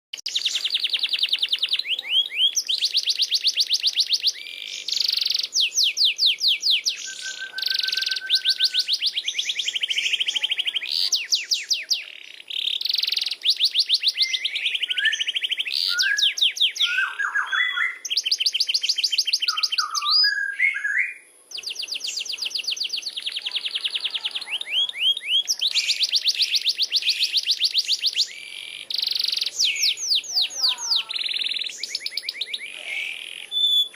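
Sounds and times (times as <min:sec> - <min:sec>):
canary singing trills: 0:00.2 - 0:33.9.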